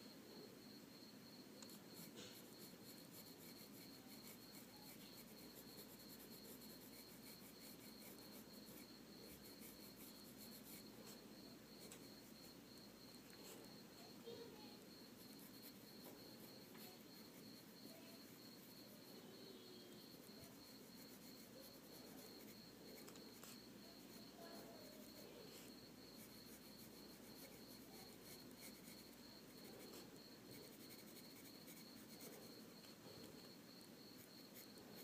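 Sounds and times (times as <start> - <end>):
faint room hiss: 0.0 - 35.0.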